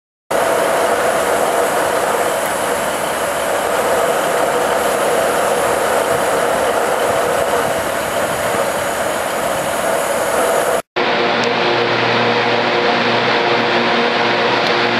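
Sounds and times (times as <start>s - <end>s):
diesel locomotive engine running: 0.3s - 14.9s.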